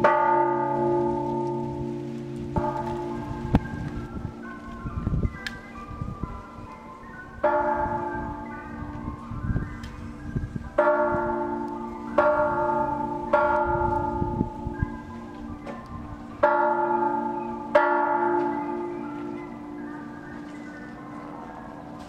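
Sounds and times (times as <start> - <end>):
church bell ringing: 0.0 - 22.0.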